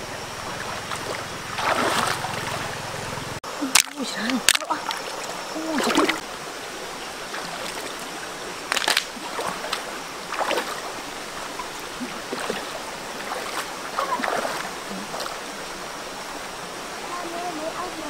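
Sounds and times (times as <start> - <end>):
water flowing: 0.0 - 18.0
water splashing: 0.0 - 18.0.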